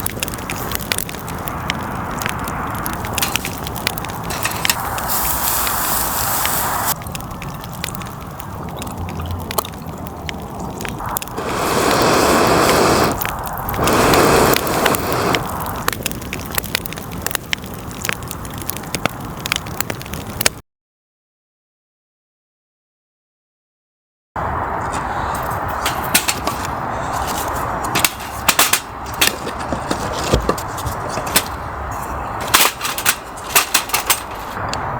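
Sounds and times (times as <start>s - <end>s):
campfire crackling and popping: 0.0s - 20.6s, 24.4s - 34.9s.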